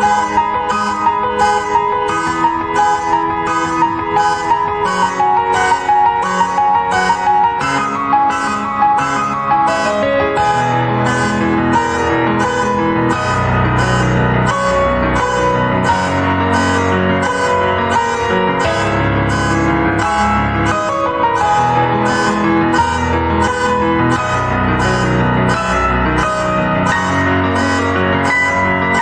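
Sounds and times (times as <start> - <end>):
car alarm pulsing: 0.0 - 29.0
piano playing chords: 0.0 - 29.0.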